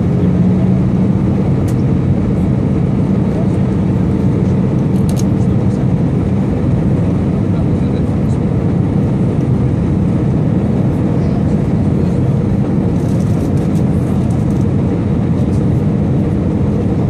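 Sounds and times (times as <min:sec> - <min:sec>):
airliner cabin engine rush: 0:00.0 - 0:17.0.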